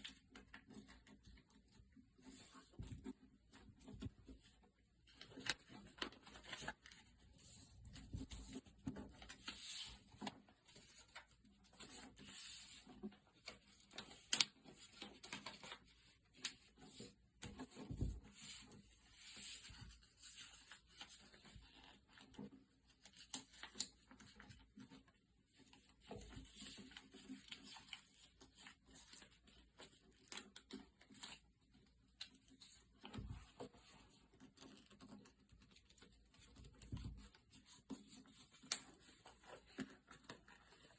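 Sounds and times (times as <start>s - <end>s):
paper crackling and rustling: 0.0s - 40.9s
paper crease sounds: 0.0s - 40.9s.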